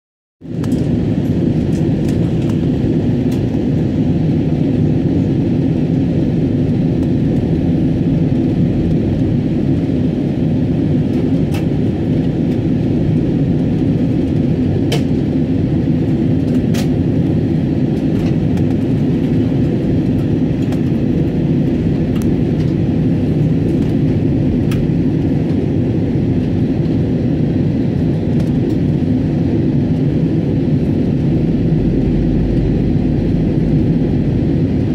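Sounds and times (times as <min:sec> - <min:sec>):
aircraft engines and airflow roar: 0:00.4 - 0:34.9.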